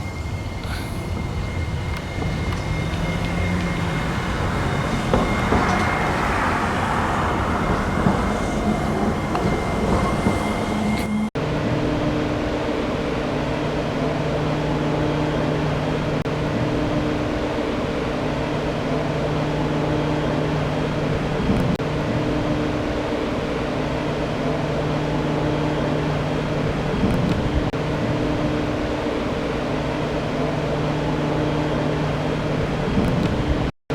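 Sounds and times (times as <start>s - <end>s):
tram electric motor hum: 0.0s - 33.7s
tram rolling noise: 0.0s - 33.7s.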